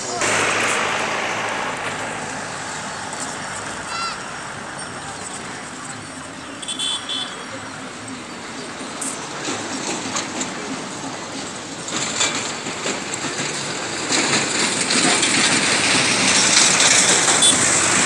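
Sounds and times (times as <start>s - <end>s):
road traffic hiss: 0.0s - 18.0s.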